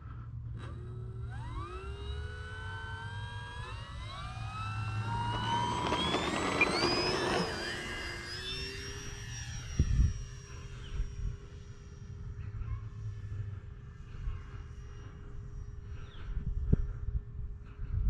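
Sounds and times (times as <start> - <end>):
electric motor and propeller whine: 0.2 - 16.3.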